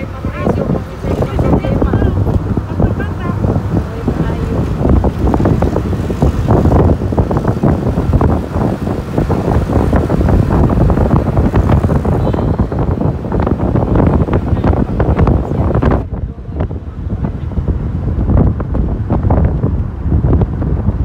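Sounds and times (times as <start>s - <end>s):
road noise: 0.0s - 21.0s
vehicle engine: 0.0s - 21.0s
wind buffeting microphone: 0.0s - 21.0s.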